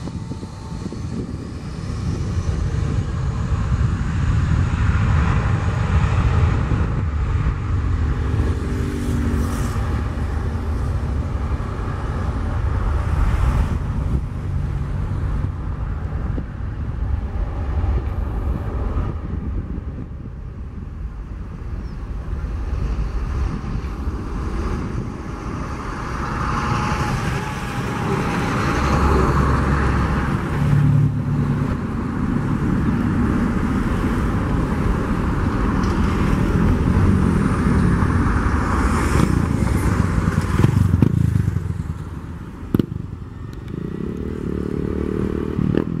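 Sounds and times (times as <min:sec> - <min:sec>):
jet engines at takeoff power: 0:00.0 - 0:46.0.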